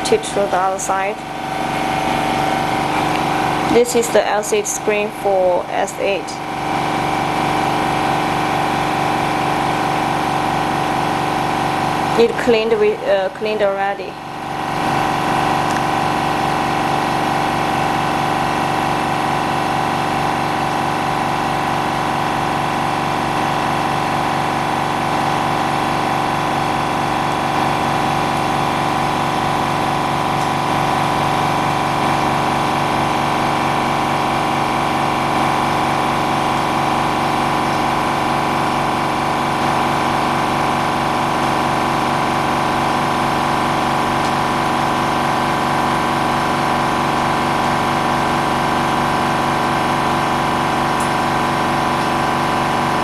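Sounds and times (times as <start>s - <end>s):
electric pump motor droning: 0.0s - 53.0s.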